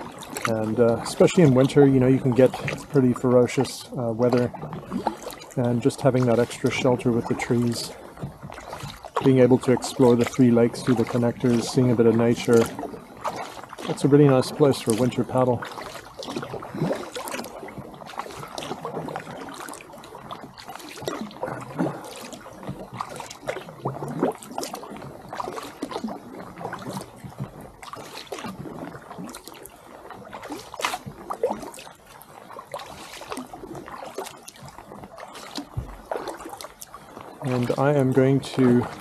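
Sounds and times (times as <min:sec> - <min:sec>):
paddle strokes in water: 0:00.0 - 0:39.0
water splashing and dripping: 0:00.0 - 0:39.0.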